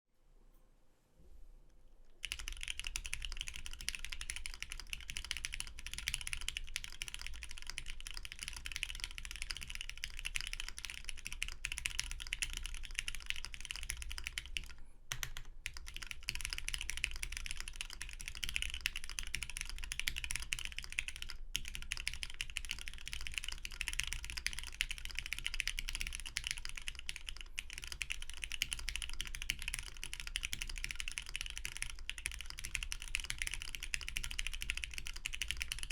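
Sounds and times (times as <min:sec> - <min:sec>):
mechanical keyboard typing: 0:02.2 - 0:35.9.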